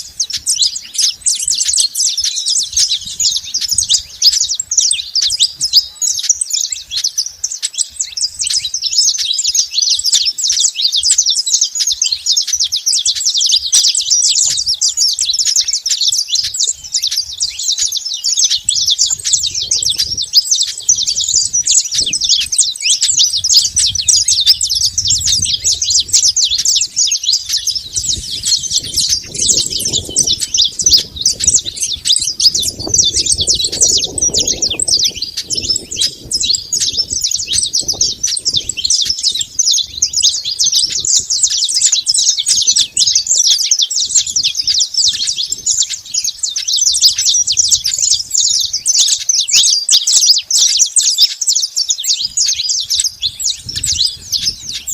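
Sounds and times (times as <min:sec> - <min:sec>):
finches chirping chorus: 0:00.0 - 0:54.9.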